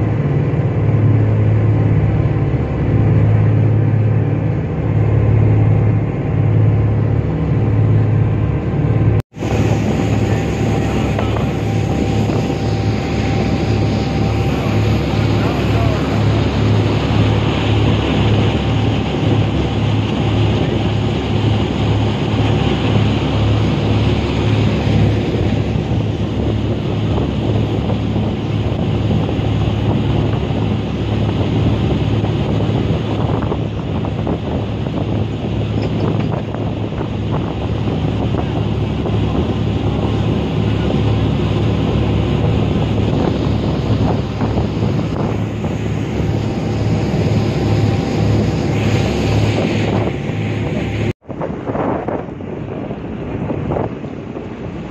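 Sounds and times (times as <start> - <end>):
boat engine hum: 0.0 - 54.9
rushing wake: 0.0 - 54.9
wind buffeting microphone: 0.0 - 54.9.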